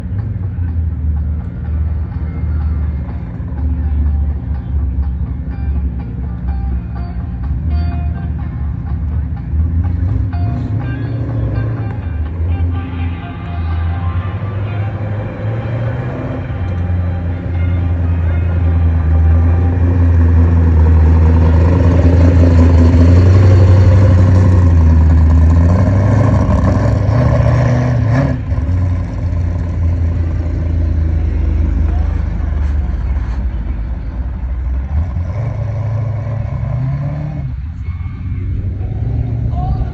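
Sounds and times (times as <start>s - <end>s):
car engine running loudly: 0.0s - 39.9s.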